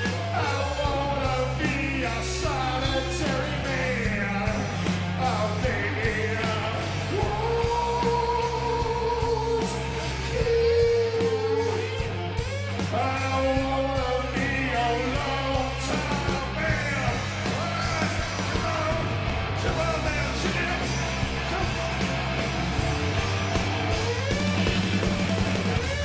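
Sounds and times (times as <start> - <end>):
yelled wordless vocals: 0.0 - 22.6
live rock band playing: 0.0 - 26.0.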